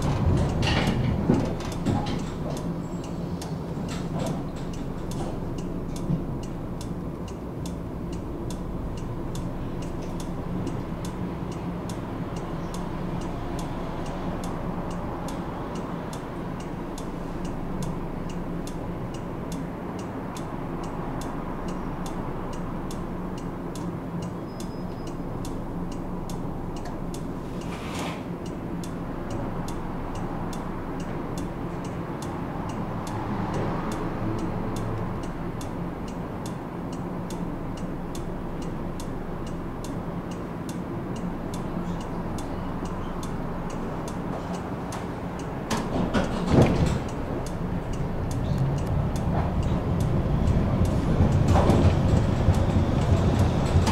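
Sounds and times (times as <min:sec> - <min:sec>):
regular ticking: 0:00.0 - 0:27.4, 0:28.4 - 0:53.9
tram humming: 0:00.0 - 0:53.9.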